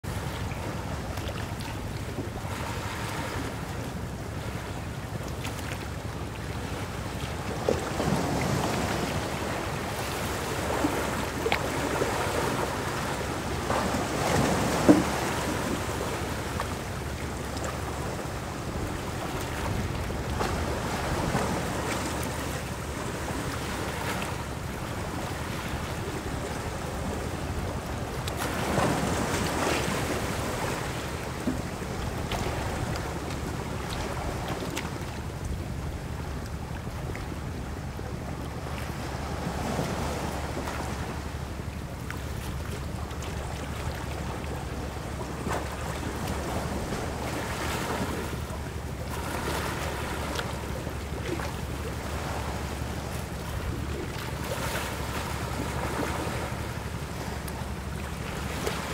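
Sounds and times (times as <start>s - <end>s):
waves splashing against rocks: 0.0s - 58.9s.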